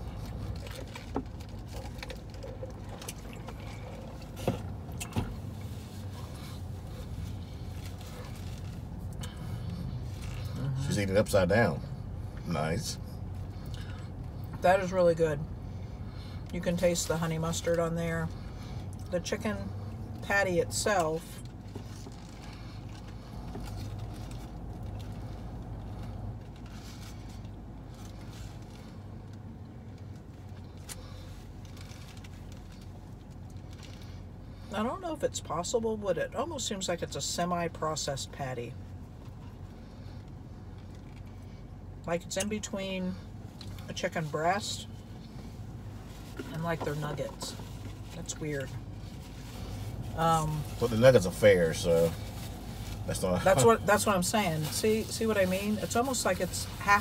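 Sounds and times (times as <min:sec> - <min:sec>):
car engine humming: 0:00.0 - 0:57.0.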